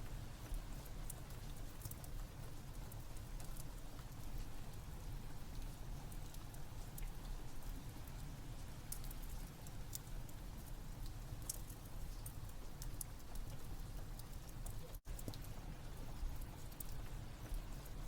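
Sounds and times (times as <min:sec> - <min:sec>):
wood fire crackling: 0:00.0 - 0:18.0
rain falling: 0:00.4 - 0:18.0.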